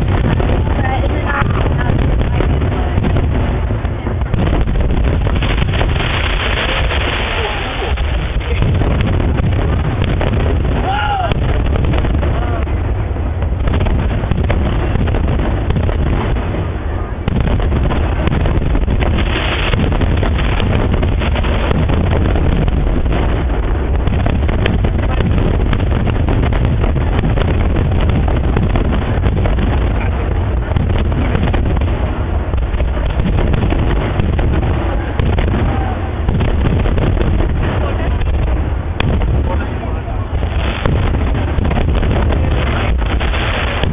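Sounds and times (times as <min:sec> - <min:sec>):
fireworks exploding: 0:00.0 - 0:43.9.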